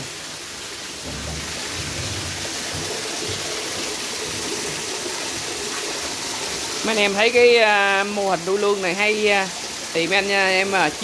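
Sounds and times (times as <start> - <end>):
water pouring into a tank: 0.0 - 11.0.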